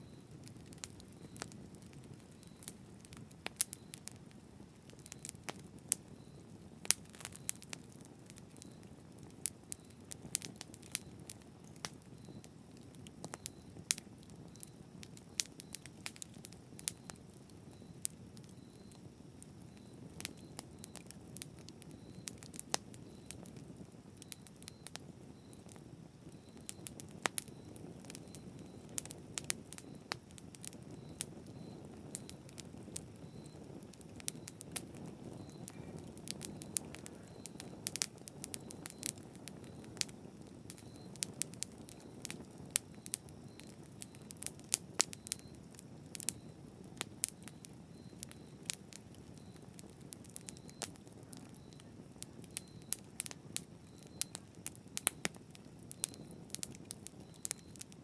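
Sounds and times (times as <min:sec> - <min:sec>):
campfire crackling and popping: 0:00.0 - 0:58.0
low rush of flame: 0:00.1 - 0:57.9.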